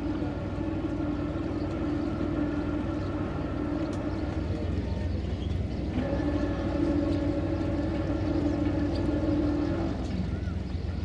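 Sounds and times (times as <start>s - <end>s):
boat engine low drone: 0.0s - 11.0s.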